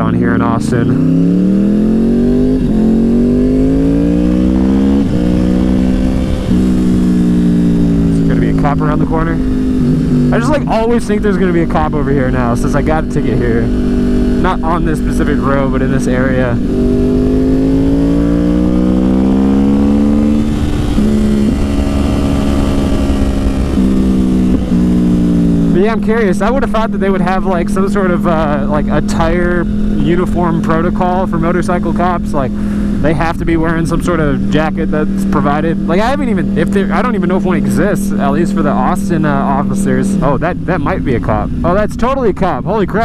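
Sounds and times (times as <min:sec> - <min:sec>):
motorcycle engine accelerating: 0:00.0 - 0:43.0
wind and road noise: 0:00.0 - 0:43.0.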